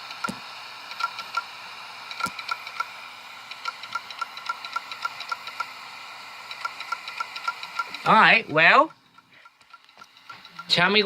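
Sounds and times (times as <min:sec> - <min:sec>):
computer running noise: 0:00.0 - 0:11.0
hard disk drive clicking: 0:00.0 - 0:11.0.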